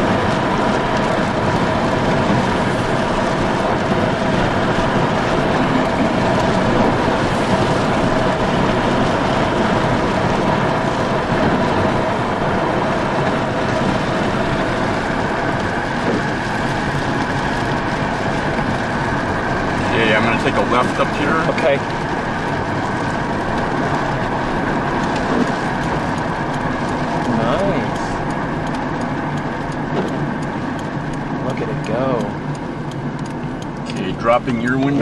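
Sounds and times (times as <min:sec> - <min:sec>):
car driving interior noise: 0:00.0 - 0:35.0
steady whine: 0:00.0 - 0:35.0.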